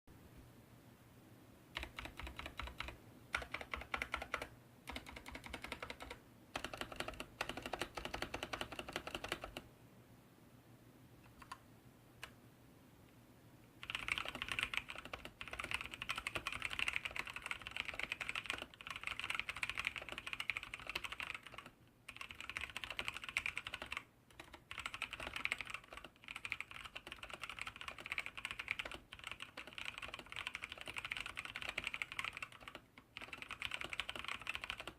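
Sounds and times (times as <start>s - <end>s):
mechanical keyboard typing: 1.8s - 9.6s, 11.3s - 11.6s, 13.8s - 34.9s.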